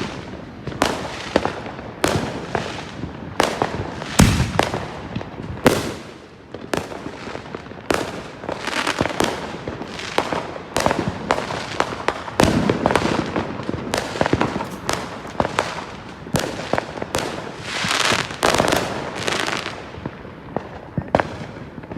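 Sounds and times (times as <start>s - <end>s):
fireworks bangs and crackling: 0.0s - 21.9s.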